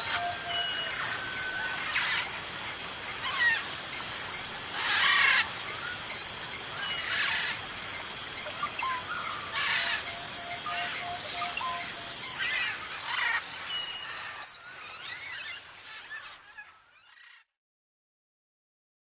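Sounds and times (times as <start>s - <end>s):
parrots chattering and squawking: 0.0s - 17.5s.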